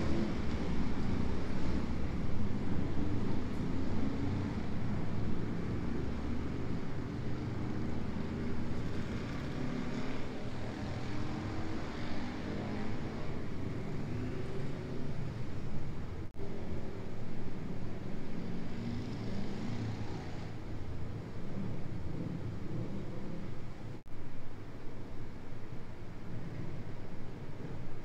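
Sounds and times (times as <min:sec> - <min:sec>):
motorcycle engines droning: 0:00.0 - 0:24.0.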